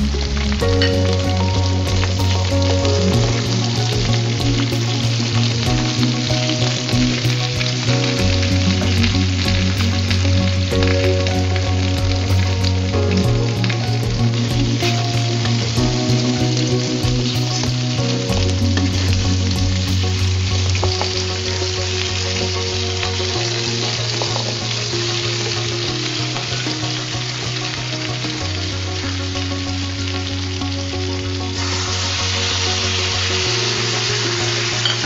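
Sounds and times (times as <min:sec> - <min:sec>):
potatoes sizzling in a pan: 0:00.0 - 0:35.0
soft background music: 0:00.0 - 0:35.0.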